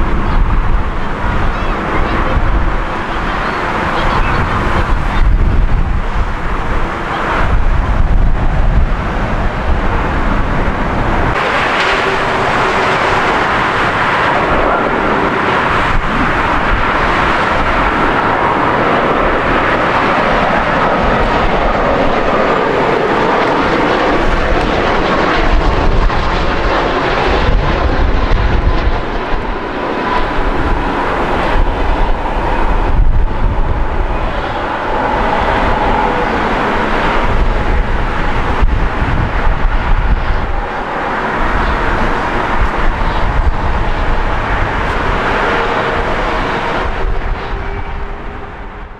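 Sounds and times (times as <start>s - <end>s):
jet engine roar: 0.0s - 48.9s.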